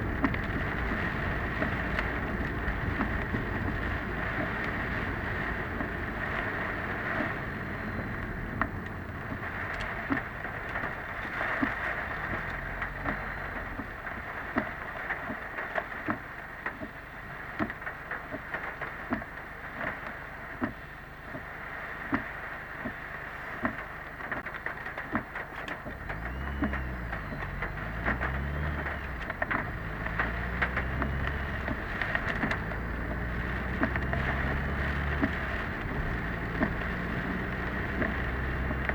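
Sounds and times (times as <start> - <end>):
low engine note: 0.0 - 17.9, 23.8 - 38.9
rain and tyre spray hiss: 0.0 - 38.9.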